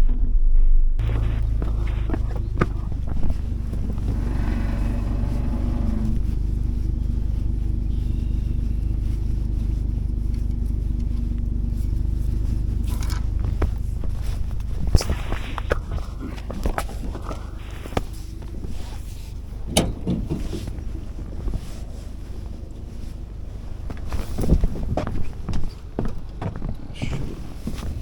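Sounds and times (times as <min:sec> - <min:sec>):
vehicle engine and road rumble: 0:01.0 - 0:28.0.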